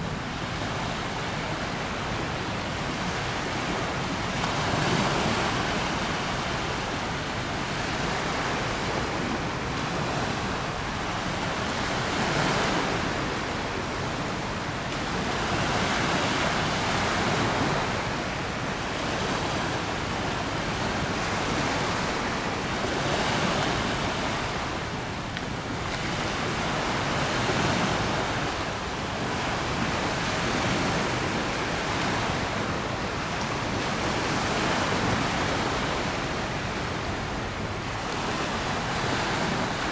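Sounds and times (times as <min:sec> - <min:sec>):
river waves: 0:00.0 - 0:39.9
wind: 0:00.0 - 0:39.9.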